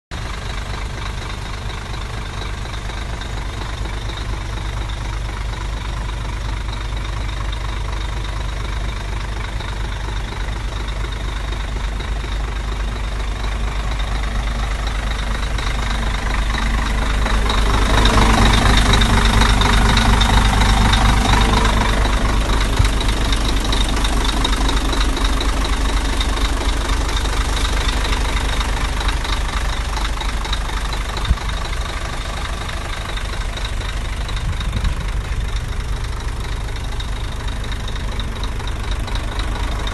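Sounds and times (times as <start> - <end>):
diesel truck engine idling: 0.1 - 39.9.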